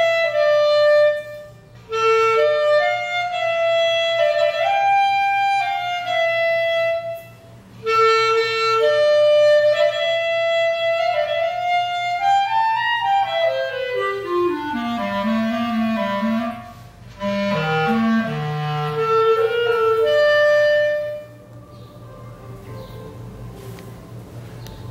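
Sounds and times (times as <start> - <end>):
solo clarinet melody: 0.0 - 23.5.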